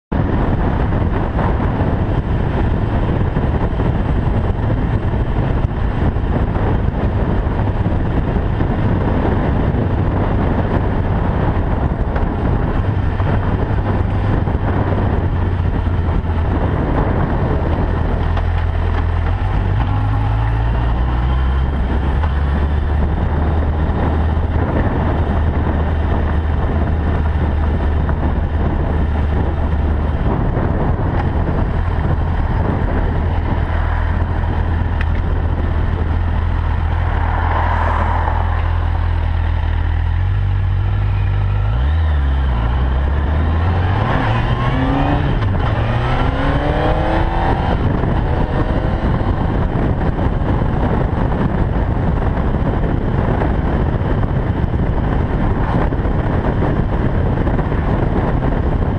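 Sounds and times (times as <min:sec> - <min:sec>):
wind rush on microphone: 0:00.0 - 0:58.9
motorcycle engine running: 0:00.1 - 0:37.2, 0:38.5 - 0:58.9.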